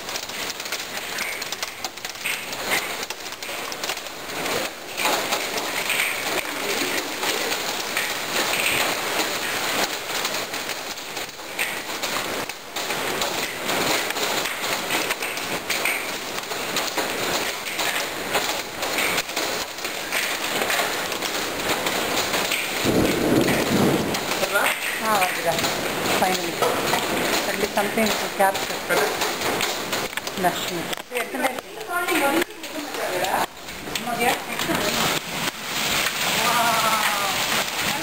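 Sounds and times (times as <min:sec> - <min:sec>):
hail clattering: 0:00.0 - 0:38.0
heavy rain hissing: 0:00.0 - 0:38.0.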